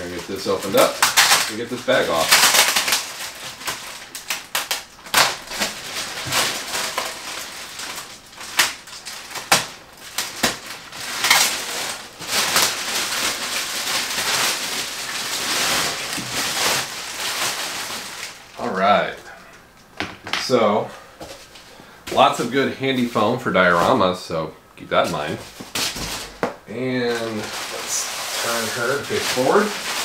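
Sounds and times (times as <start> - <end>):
plastic bag crinkling and tearing: 0.0 - 19.2, 25.1 - 30.0.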